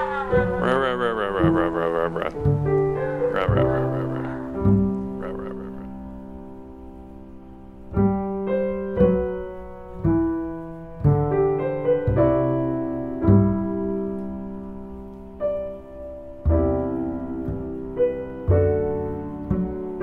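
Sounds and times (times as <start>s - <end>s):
slow solo piano chords: 0.0s - 20.0s.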